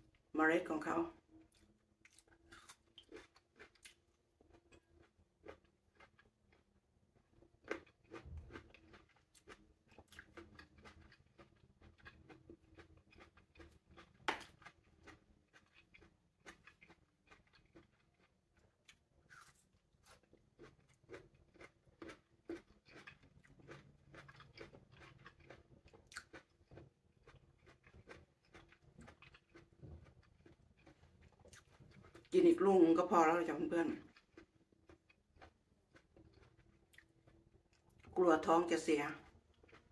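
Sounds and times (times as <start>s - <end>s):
chewing crisp fruit: 0.0s - 39.9s.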